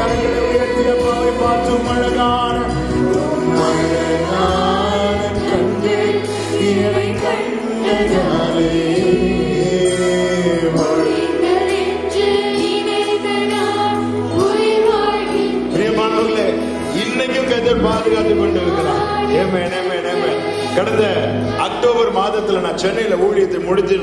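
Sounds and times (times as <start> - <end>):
children's choir singing: 0.0 - 16.3, 18.0 - 23.1
band with keyboard: 0.0 - 24.0.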